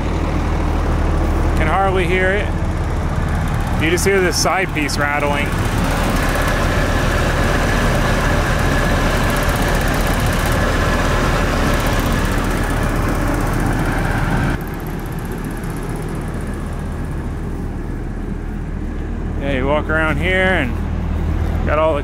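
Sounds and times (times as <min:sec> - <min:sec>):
generator humming: 0:00.0 - 0:22.0.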